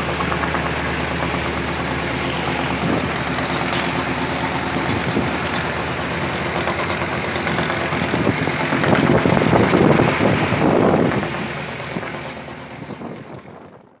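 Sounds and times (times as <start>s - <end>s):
water noise: 0.0s - 13.8s
boat engine running: 0.0s - 14.0s
wind: 0.0s - 14.0s.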